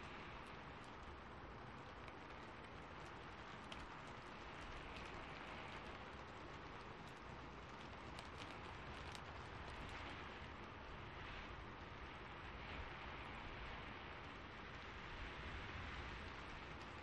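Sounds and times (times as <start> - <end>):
faint ticks: 0.0 - 17.0
soft rain hiss: 0.0 - 17.0.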